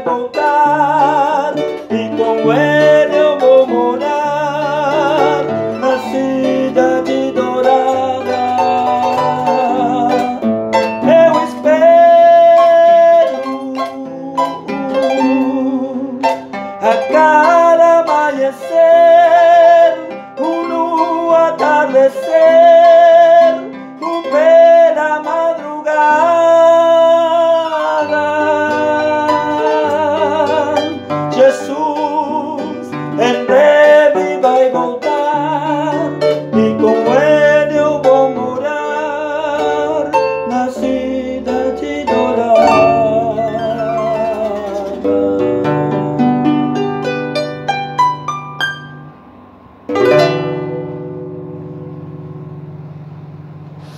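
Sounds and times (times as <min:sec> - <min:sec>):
man singing with vibrato: 0:00.0 - 0:47.9
harp plucked notes: 0:00.0 - 0:53.9.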